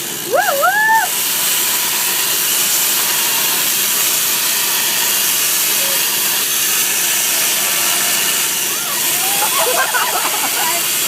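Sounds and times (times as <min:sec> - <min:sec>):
chainsaw cutting ice: 0:00.0 - 0:11.0.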